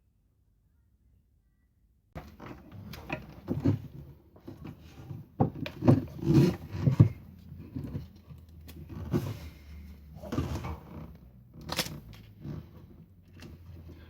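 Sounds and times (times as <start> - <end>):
tools and parts rummaged: 2.2 - 14.0.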